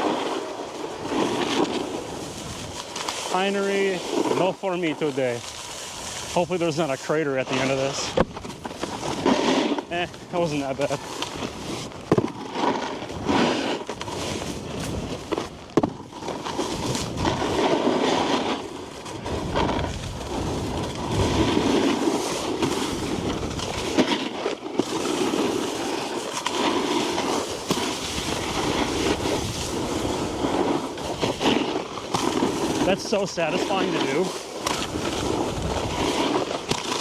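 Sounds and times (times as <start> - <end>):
snowboard scraping over snow: 0.0 - 37.0.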